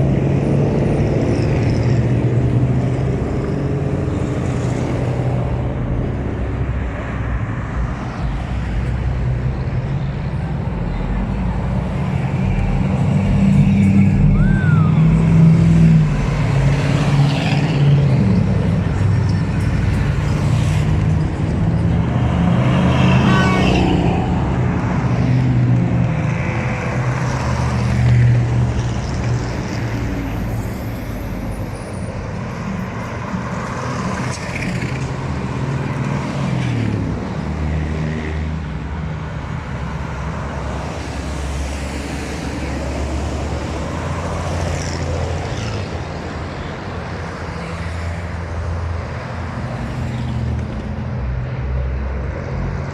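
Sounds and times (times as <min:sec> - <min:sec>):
heavy truck engines driving past: 0:00.0 - 0:52.9.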